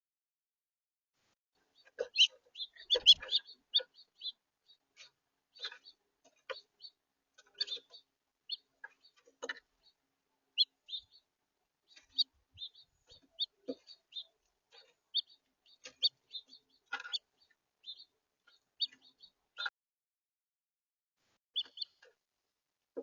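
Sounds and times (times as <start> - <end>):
house finches chirping: 1.6 - 19.7, 21.6 - 22.1.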